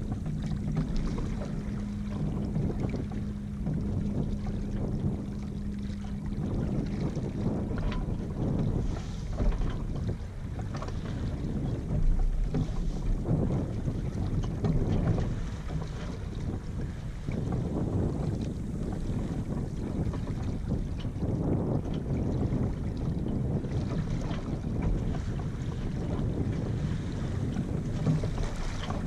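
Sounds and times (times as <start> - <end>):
low steady hum: 0.0 - 29.0
water lapping along hull: 0.0 - 29.0
wind buffeting microphone: 0.0 - 29.0.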